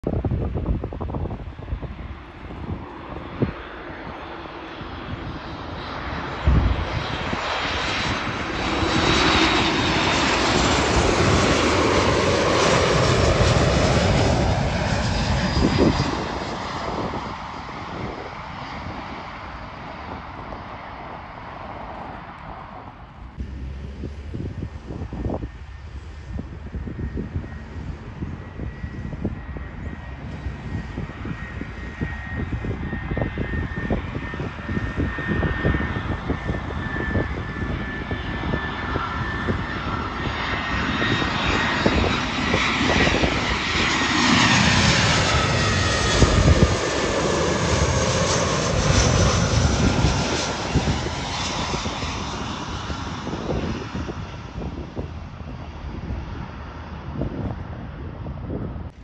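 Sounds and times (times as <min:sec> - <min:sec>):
jet engines whine and rumble: 0:00.0 - 0:59.0
wind buffeting microphone: 0:00.0 - 0:59.0.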